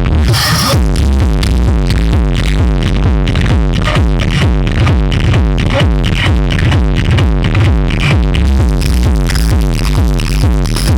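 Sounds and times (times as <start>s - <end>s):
electronic dance music: 0.0s - 10.9s.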